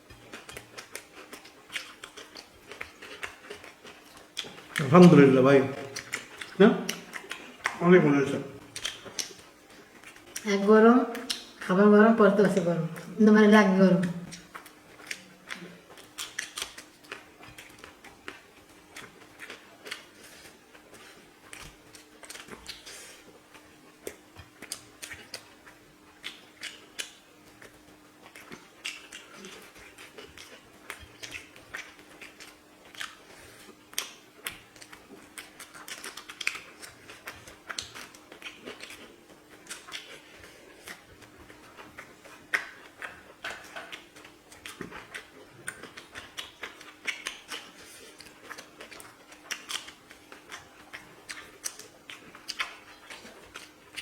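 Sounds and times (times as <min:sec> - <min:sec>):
chewing and lip smacks: 0:00.0 - 0:10.5, 0:11.1 - 0:11.7, 0:14.0 - 0:54.0
faint steady hum: 0:00.0 - 0:54.0.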